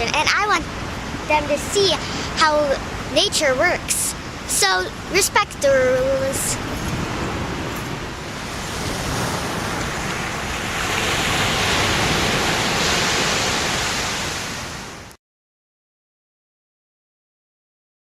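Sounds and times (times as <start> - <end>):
wind buffeting the microphone: 0.0 - 15.0
surf rushing on the shore: 0.0 - 15.2.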